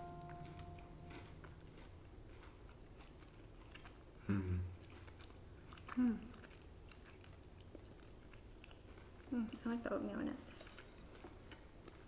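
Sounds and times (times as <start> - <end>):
people chewing cookies: 0.0 - 12.0.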